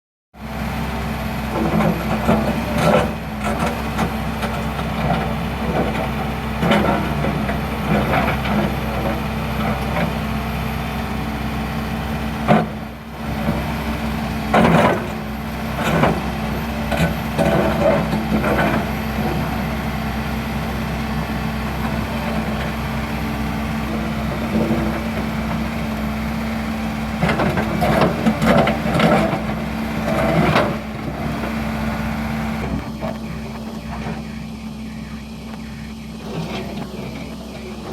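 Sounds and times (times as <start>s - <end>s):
excavator engine running: 0.4s - 37.9s.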